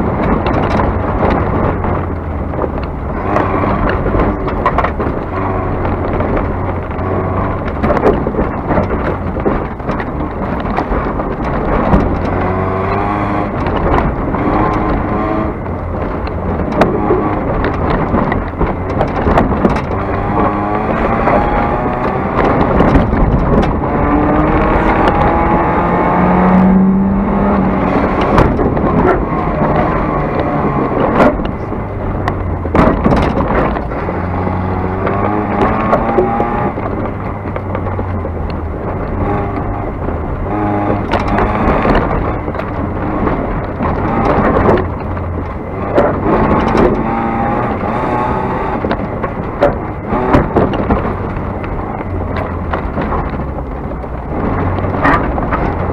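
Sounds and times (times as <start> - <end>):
race car engine revving: 0.0 - 55.9
stones knocking against car: 2.5 - 55.9.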